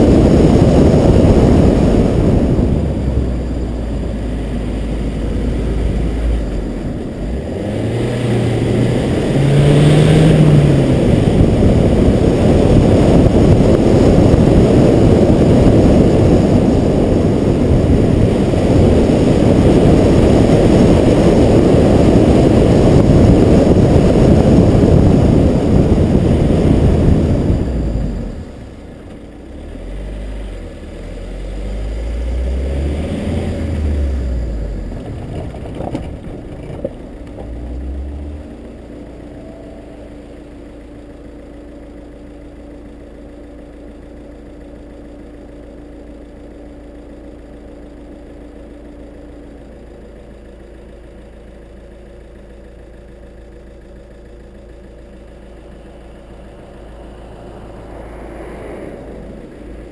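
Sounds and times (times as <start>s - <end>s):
approaching car engine: 0.0s - 59.9s
car engine idling: 0.0s - 59.9s
wind and road noise: 0.0s - 59.9s.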